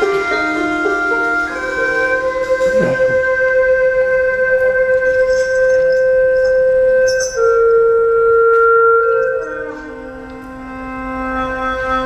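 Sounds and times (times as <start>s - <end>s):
bamboo flute held notes: 0.0s - 12.0s.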